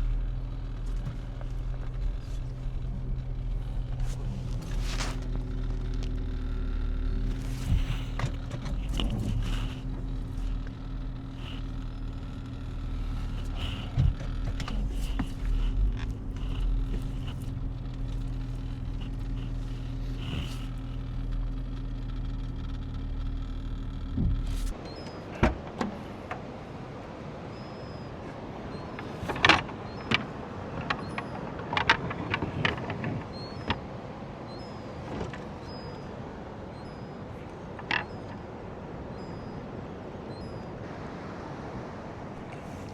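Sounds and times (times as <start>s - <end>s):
car engine humming: 0.0s - 42.9s.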